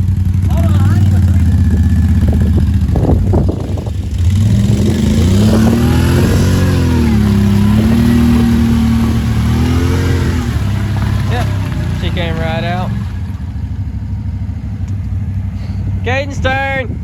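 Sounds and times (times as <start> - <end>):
quad engine revving: 0.0 - 16.8.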